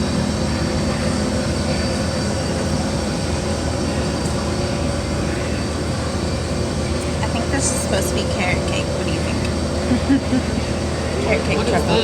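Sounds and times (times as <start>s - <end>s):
constant hum: 0.0s - 12.0s
rumbling store background noise: 0.0s - 12.0s.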